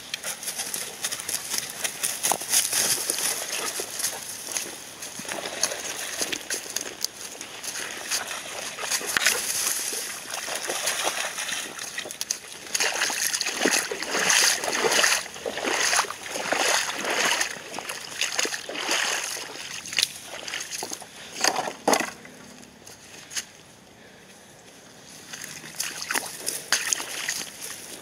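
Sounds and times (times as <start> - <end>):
dogs splashing through water: 0.0 - 22.4, 25.2 - 28.0.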